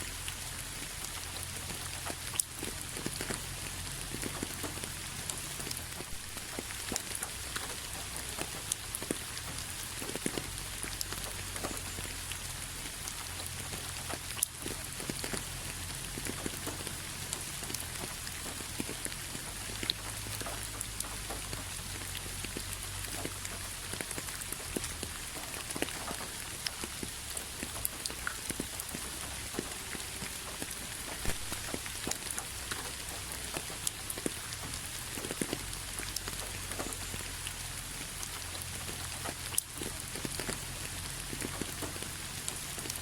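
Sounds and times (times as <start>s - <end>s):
rain on a hard surface: 0.0s - 43.0s.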